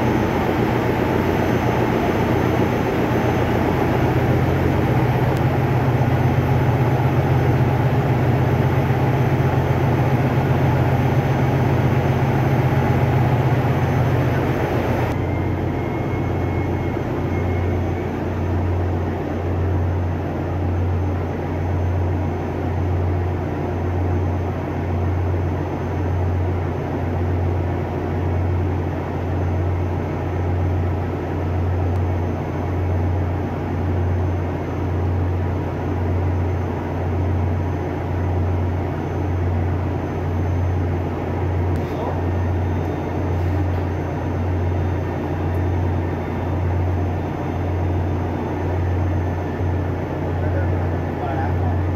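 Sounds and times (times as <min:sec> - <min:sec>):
ship engine room machinery drone: 0:00.0 - 0:51.9.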